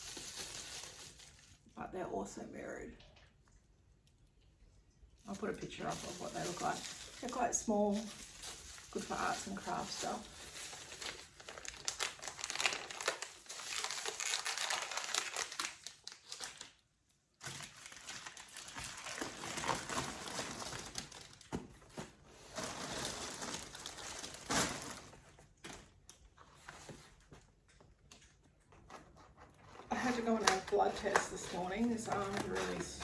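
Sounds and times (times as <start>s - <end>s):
packaging crinkling: 0.0s - 1.7s, 5.3s - 16.8s, 17.4s - 27.3s, 29.6s - 33.0s.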